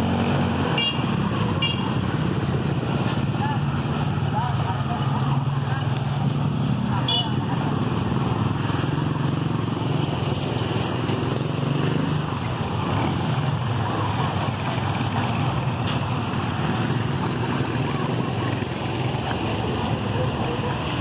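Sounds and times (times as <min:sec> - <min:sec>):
engine humming: 0:00.0 - 0:21.0
outdoor noise: 0:00.0 - 0:21.0.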